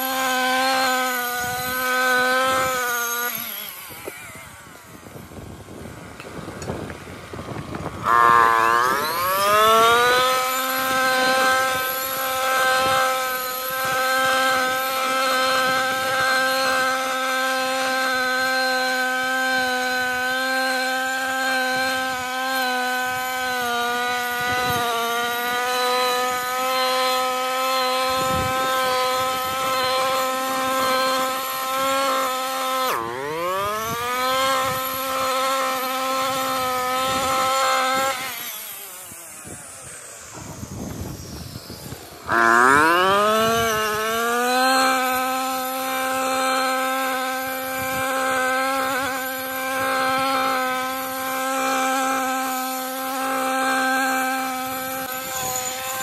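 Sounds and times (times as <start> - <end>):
brushcutter engine revving: 0.0 - 56.0.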